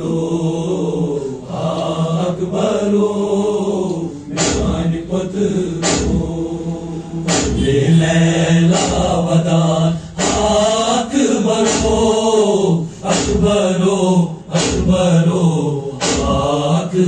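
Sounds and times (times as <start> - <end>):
men chanting unaccompanied: 0.0 - 17.0.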